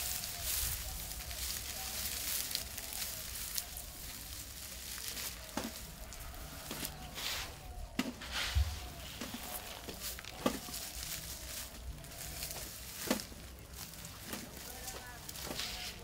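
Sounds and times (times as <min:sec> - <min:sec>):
stems snapping: 0:00.0 - 0:07.1, 0:09.2 - 0:16.0
grass stalks rustling and crackling: 0:00.0 - 0:16.0.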